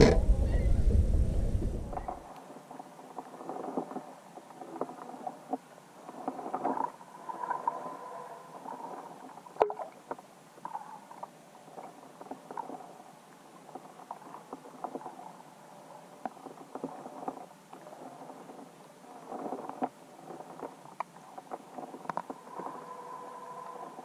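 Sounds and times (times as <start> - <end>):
underwater knocks and crackles: 0.0 - 23.0.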